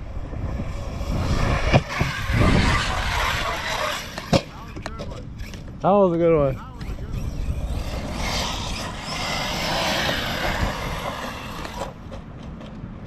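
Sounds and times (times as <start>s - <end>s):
toy truck drivetrain and tyres: 0.6s - 13.0s.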